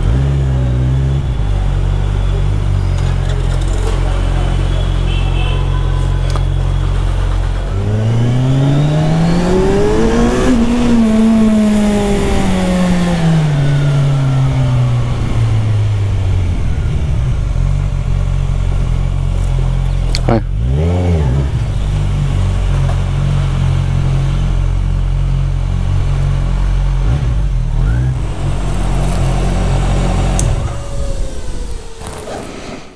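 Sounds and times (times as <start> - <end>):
motorcycle engine revving: 0.0 - 32.5.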